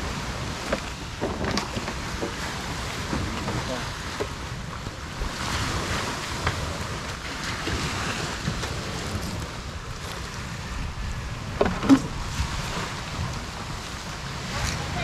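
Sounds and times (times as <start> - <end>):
small waves on rocky shore: 0.0 - 15.0
wind buffeting microphone: 0.0 - 15.0.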